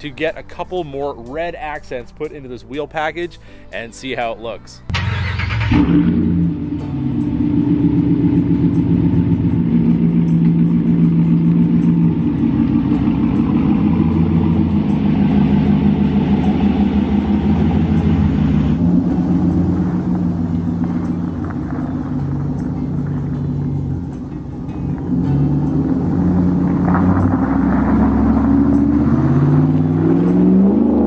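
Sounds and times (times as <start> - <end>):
pickup truck engine running: 4.9 - 31.0.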